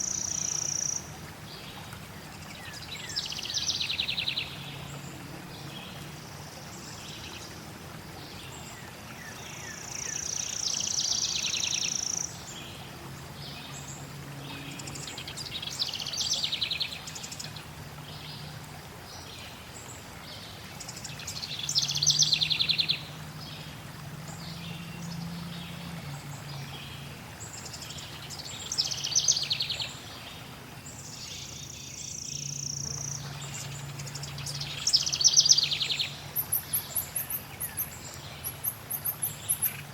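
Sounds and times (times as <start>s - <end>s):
songbirds trilling: 0.0s - 7.6s, 8.2s - 39.9s
flowing water: 0.0s - 39.9s.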